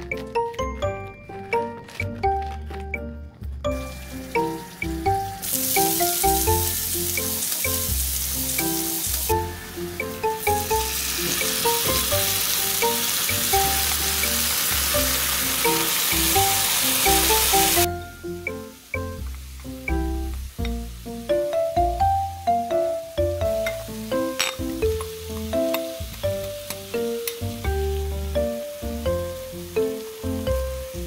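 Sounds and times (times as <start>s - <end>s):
onions sizzling in hot oil: 3.8s - 21.3s, 22.1s - 31.0s.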